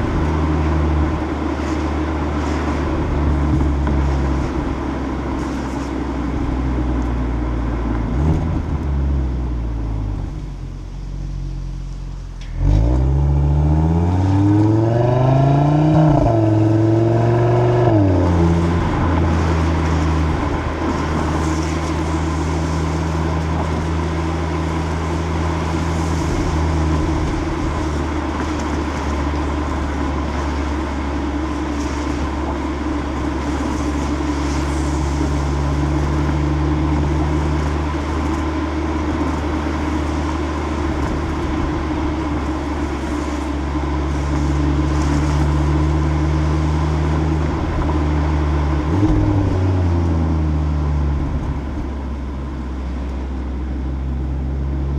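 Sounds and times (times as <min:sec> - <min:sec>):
tyre and wind noise: 0:00.0 - 0:10.8, 0:12.2 - 0:54.9
car exhaust droning: 0:00.0 - 0:54.9.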